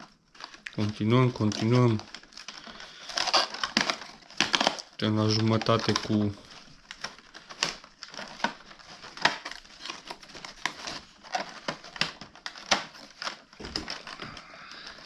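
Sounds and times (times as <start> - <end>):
cardboard crinkling: 0.0 - 15.0.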